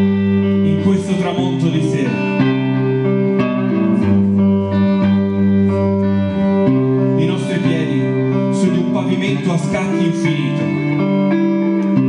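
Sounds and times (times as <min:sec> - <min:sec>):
amplified guitar chords: 0:00.0 - 0:12.0.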